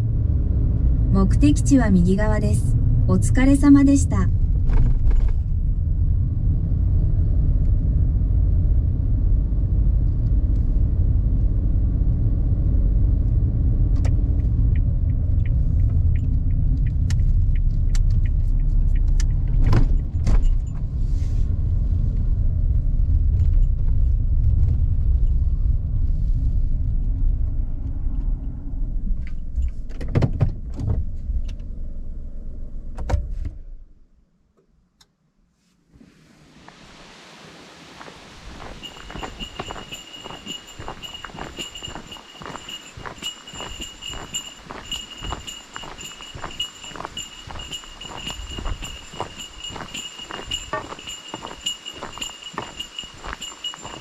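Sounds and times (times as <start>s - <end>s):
car engine and road rumble: 0.0s - 34.2s, 36.0s - 54.0s.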